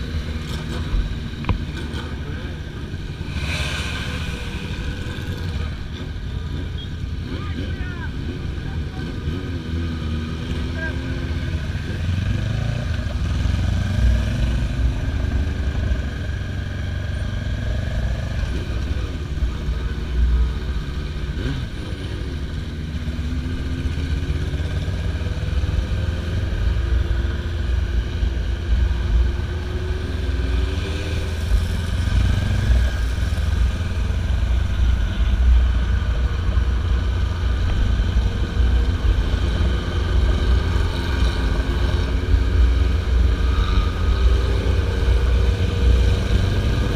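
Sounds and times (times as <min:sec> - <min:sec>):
motorcycle engines revving: 0:00.0 - 0:46.9.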